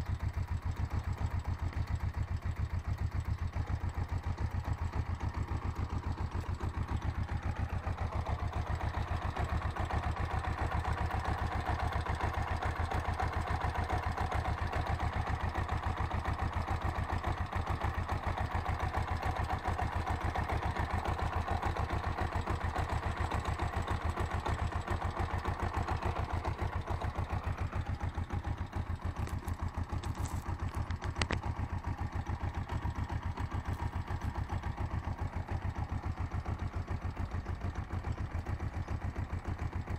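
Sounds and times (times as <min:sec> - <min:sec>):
engine knock: 0:00.0 - 0:39.9
motorcycle engine idling: 0:00.0 - 0:39.9.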